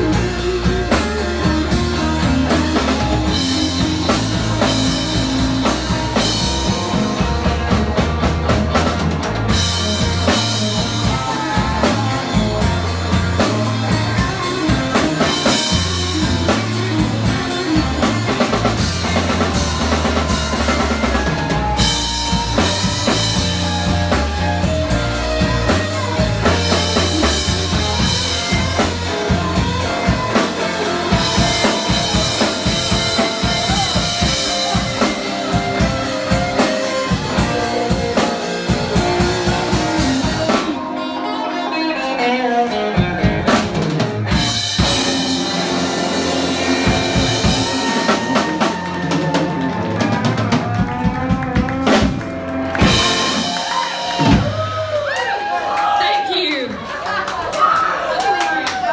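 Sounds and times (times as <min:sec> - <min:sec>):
bass guitar: 0:00.0 - 0:55.6
drum kit: 0:00.0 - 0:55.7
electric guitars: 0:00.0 - 0:55.9.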